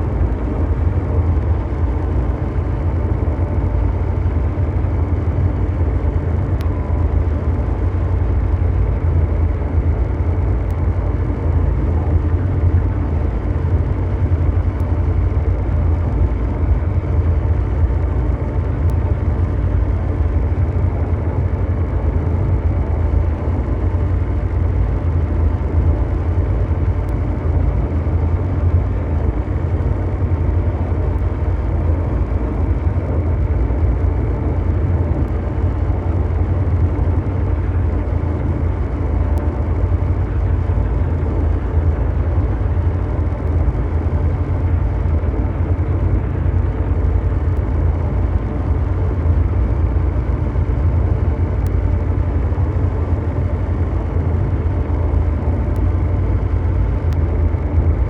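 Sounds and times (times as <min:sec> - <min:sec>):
deep mechanical drone: 0:00.0 - 0:58.0
dense hum: 0:00.0 - 0:58.0.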